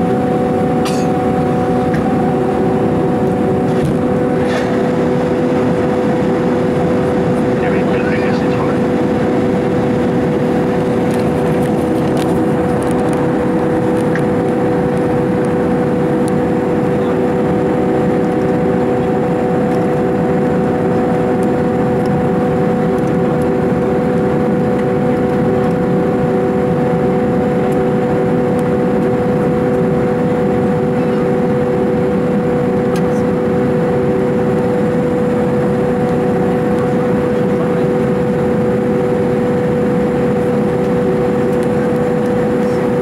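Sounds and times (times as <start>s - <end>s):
jet engines humming: 0.0s - 43.0s.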